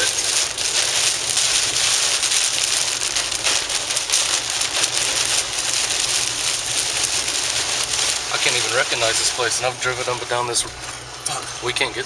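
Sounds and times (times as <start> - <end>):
rain and wet road hiss: 0.0 - 10.4
low engine rumble: 0.0 - 12.0.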